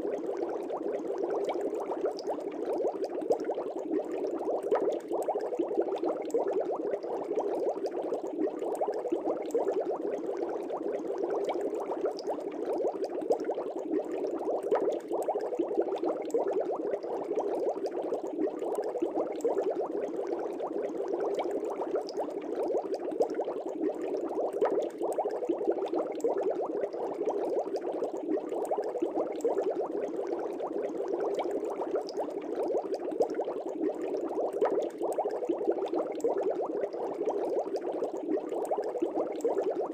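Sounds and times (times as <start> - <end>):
air bubbles in fish tank: 0.0 - 39.9.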